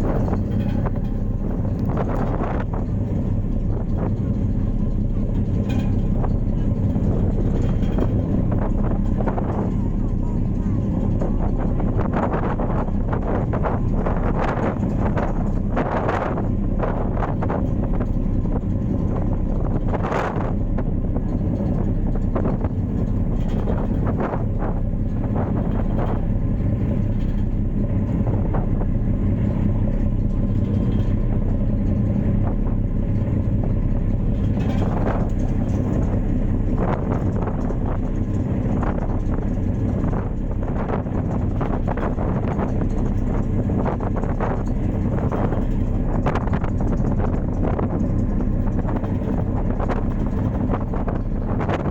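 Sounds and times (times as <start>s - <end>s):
ferry engine humming: 0.0s - 51.9s
wind rushes on microphone: 0.0s - 51.9s.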